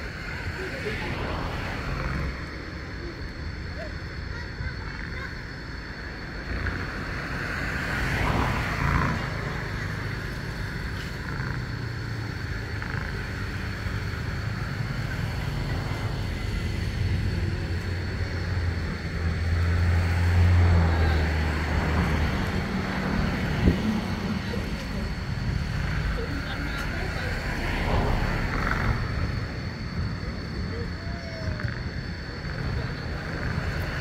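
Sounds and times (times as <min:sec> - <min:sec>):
passing road vehicles rumbling: 0:00.0 - 0:34.0.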